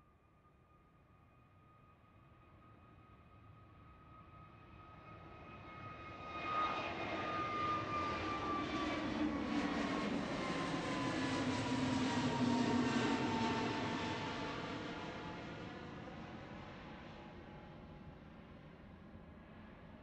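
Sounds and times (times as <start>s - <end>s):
jet engines at takeoff: 1.9s - 20.0s.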